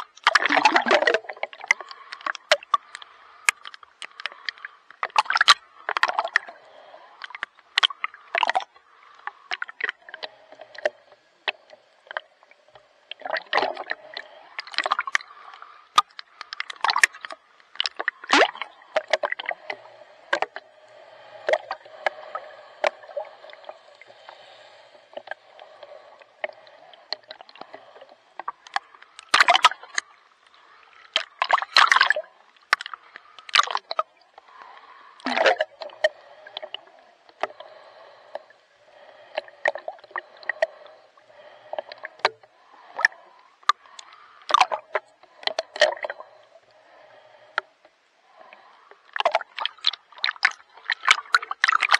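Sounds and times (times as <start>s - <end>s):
water lapping and gurgling: 0.0s - 51.9s
water splashing and sloshing: 0.0s - 51.9s.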